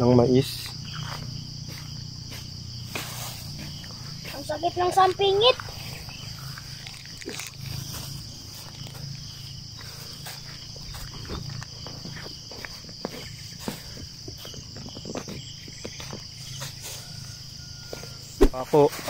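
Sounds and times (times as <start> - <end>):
high-pitched insect chorus: 0.0 - 19.0
rustling in dry cut grass: 1.0 - 17.4.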